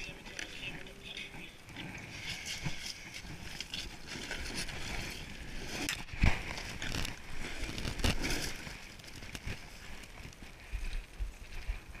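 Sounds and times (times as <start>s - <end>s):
gravel crunching and scraping: 0.0s - 12.0s.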